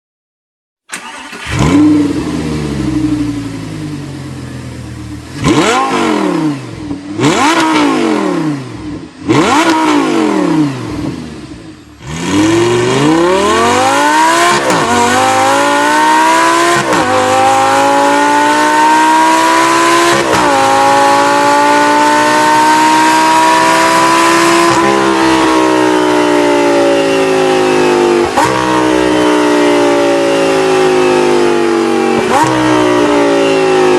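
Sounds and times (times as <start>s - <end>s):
car accelerating through gears: 1.0s - 4.1s, 5.2s - 11.2s, 12.0s - 33.9s
sports car engine revving: 1.0s - 33.9s.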